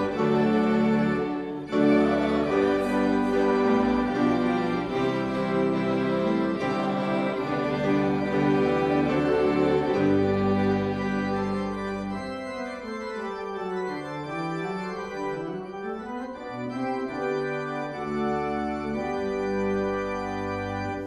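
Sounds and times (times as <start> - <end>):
church organ chords: 0.0 - 21.0.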